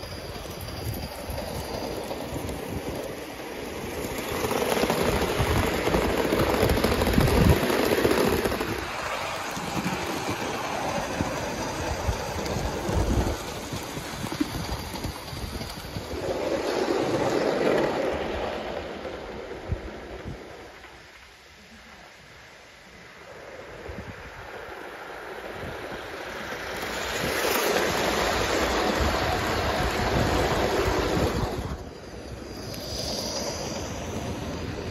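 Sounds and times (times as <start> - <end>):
model train wheels clicking on rails: 0.0 - 34.9.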